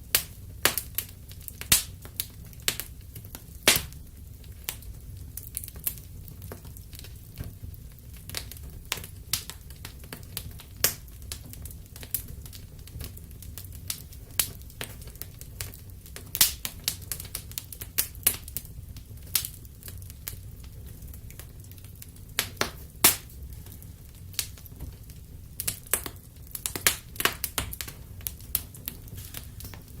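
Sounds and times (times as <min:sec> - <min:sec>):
campfire crackling: 0:00.0 - 0:30.0
low fire rumble: 0:00.0 - 0:30.0.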